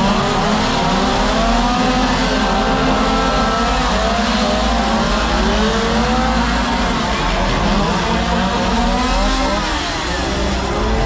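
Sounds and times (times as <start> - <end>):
chainsaw engines revving: 0.0 - 11.0.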